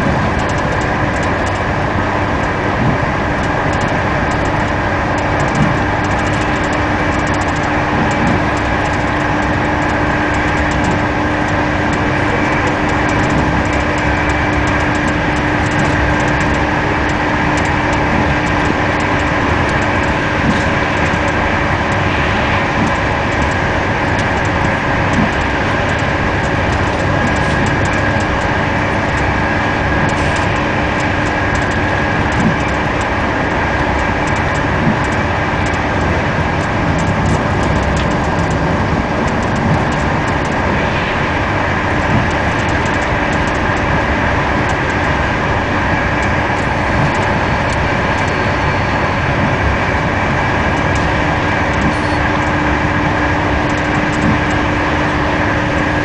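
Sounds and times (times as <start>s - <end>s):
constant hums: 0.0s - 56.0s
train rumble from inside carriage: 0.0s - 56.0s.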